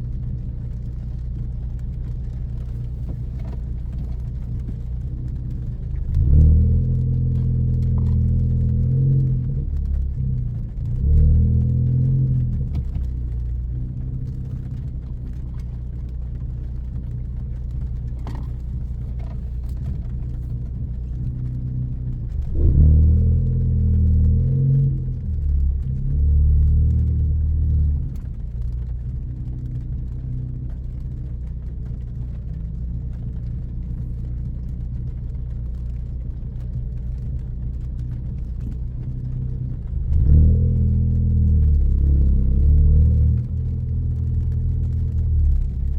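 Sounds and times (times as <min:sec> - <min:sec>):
car engine and exhaust drone: 0:00.0 - 0:45.9.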